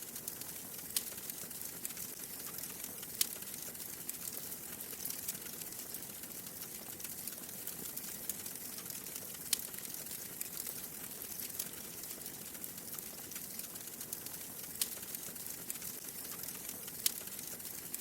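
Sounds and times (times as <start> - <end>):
wood fire crackling in fireplace: 0.0 - 18.0.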